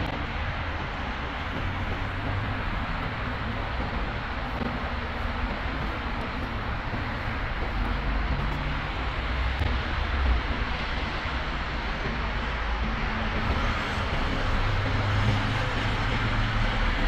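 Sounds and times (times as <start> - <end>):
low unsteady city rumble: 0.0 - 17.0.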